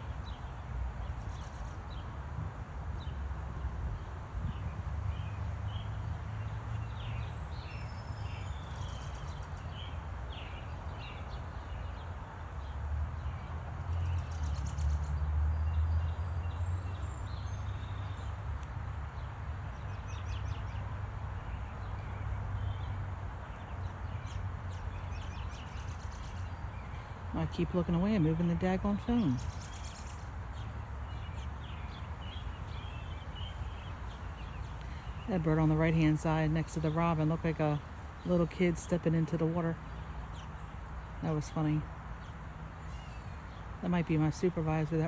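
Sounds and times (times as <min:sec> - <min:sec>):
small songbirds chirping: 0:00.0 - 0:02.2, 0:02.9 - 0:45.0.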